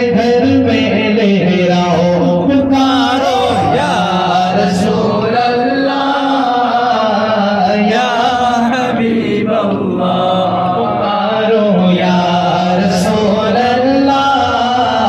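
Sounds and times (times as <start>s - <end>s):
man singing a chant: 0.0s - 15.0s.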